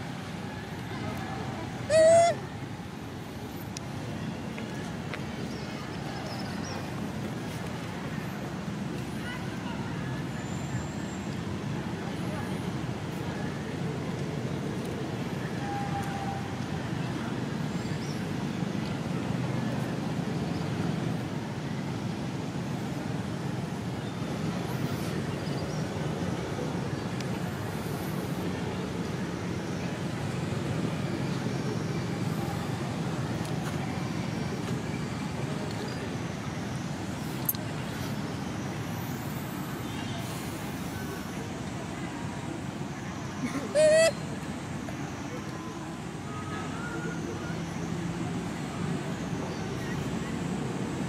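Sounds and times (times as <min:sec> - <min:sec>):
low din of distant traffic: 0:00.0 - 0:51.0.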